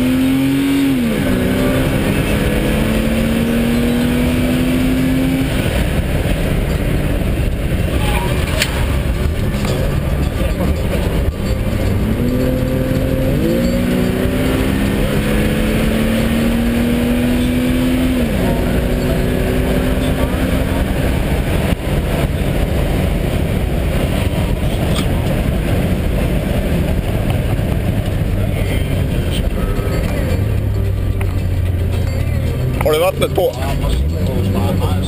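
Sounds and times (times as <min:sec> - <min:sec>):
car engine revving: 0:00.0 - 0:35.0
wind and road noise: 0:00.0 - 0:35.0.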